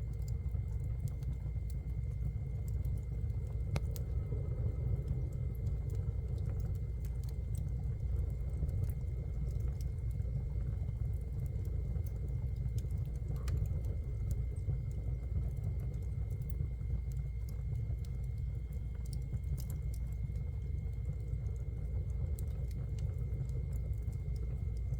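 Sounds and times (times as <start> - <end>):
wood fire crackling and popping: 0.0 - 24.9.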